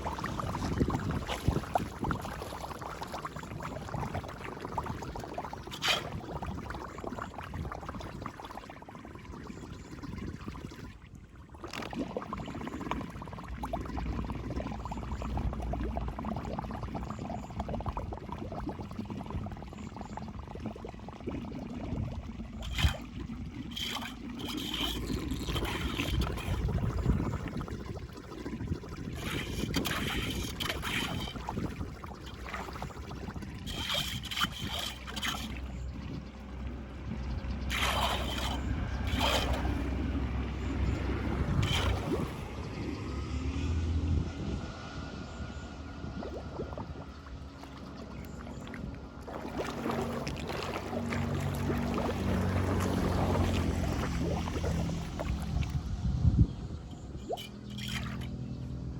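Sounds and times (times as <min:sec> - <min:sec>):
wind on microphone: 0:00.0 - 0:08.5, 0:13.9 - 0:58.6
water draining and splashing: 0:00.0 - 0:42.8, 0:46.0 - 0:56.0, 0:56.9 - 0:58.4.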